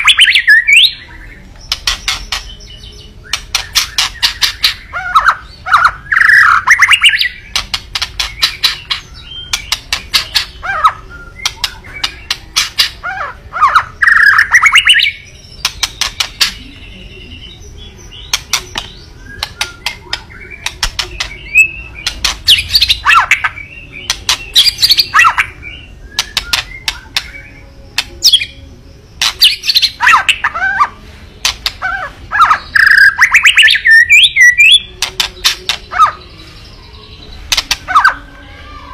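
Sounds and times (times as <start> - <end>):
bird warbled song: 0.0 - 38.9.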